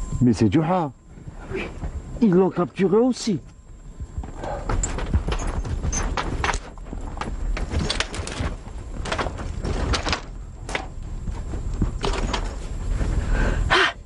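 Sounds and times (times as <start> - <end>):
low steady rumble: 0.0 - 14.0
hooves and footsteps on dry ground: 1.1 - 13.4.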